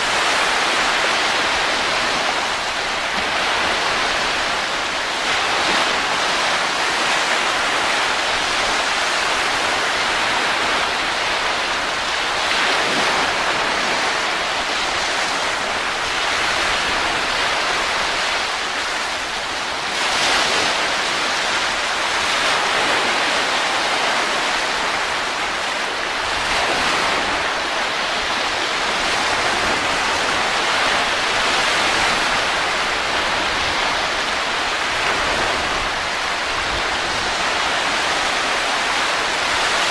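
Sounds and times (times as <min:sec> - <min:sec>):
rushing wind: 0:00.0 - 0:39.9.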